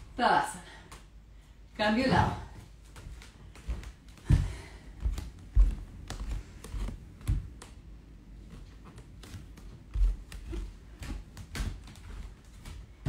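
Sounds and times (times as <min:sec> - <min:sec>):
bare footsteps on wooden floor: 0:02.2 - 0:13.0.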